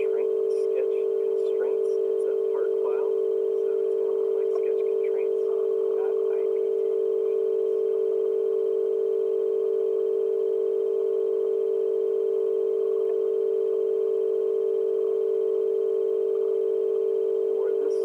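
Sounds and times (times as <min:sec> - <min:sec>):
steady electronic tone: 0:00.0 - 0:18.0.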